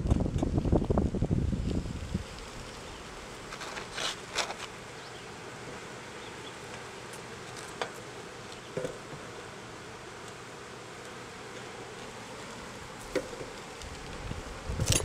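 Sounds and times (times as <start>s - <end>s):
steady buzzing hum: 0.0s - 15.0s.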